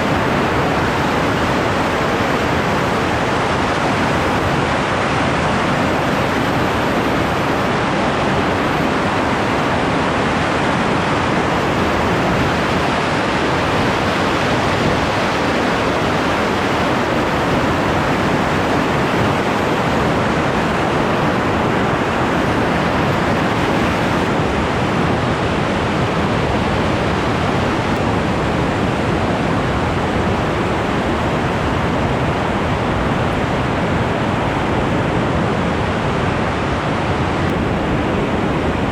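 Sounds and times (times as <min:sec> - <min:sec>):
river roaring through waterfalls: 0:00.0 - 0:38.9.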